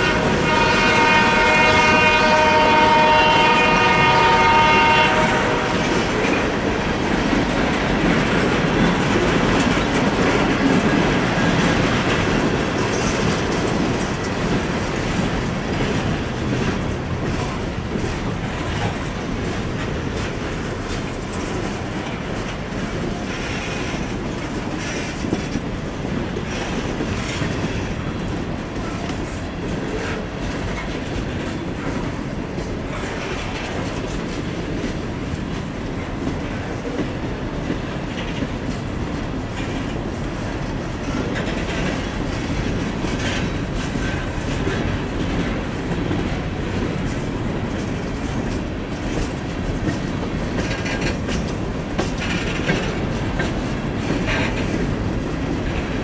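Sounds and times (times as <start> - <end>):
wheels clacking over rail joints: 0.0 - 56.0.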